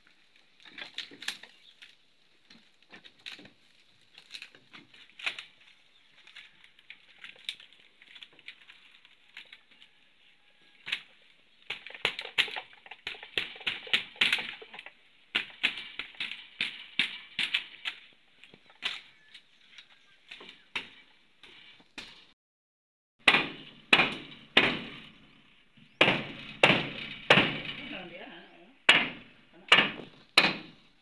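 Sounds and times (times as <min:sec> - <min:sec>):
bamboo panel crackling and rustling: 0:00.0 - 0:22.4, 0:23.2 - 0:31.0.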